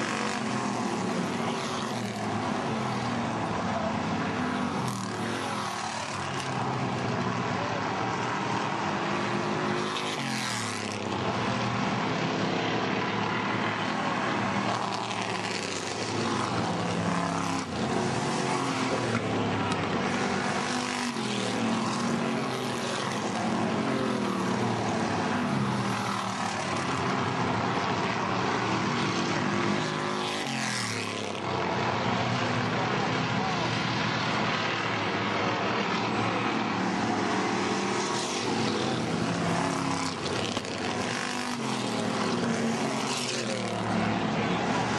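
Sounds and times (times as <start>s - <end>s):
race car engines: 0.0s - 44.9s
race cars passing by: 0.0s - 44.9s.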